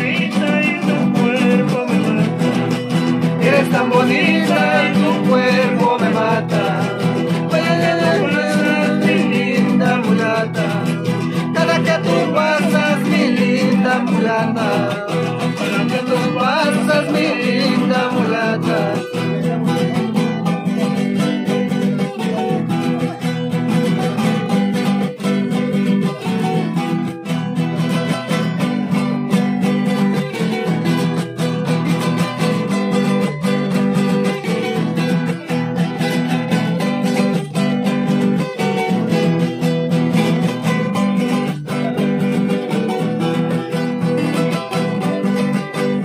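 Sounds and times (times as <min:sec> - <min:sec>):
acoustic guitars playing: 0:00.0 - 0:46.0.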